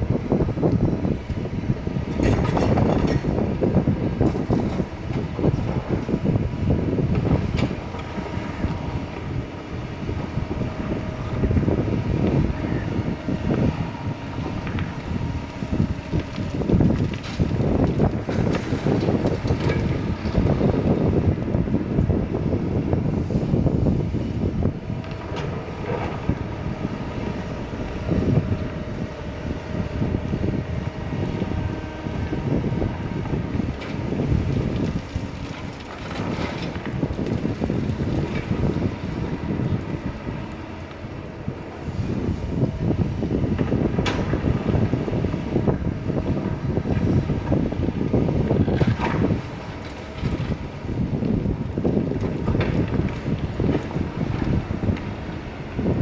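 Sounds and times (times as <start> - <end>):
excavator diesel engine rumble: 0.0 - 56.0
wind buffeting microphone: 0.0 - 56.0.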